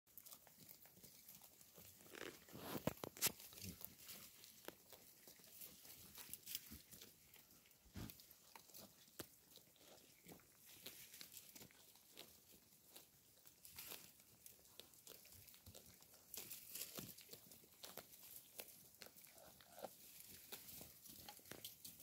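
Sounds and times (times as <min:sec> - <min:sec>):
goats tearing and chewing grass: 0:00.1 - 0:22.0.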